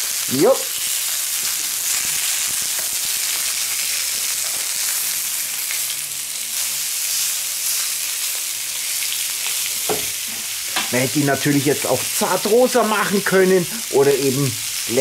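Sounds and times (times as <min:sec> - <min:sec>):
meat sizzling on hot plate: 0:00.0 - 0:15.0.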